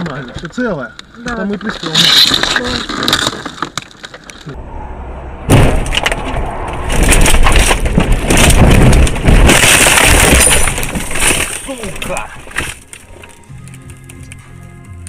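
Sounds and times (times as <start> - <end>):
branches cracking and smashing: 0.0 - 4.4, 5.5 - 14.5
car rumbling over rough ground: 0.0 - 15.0.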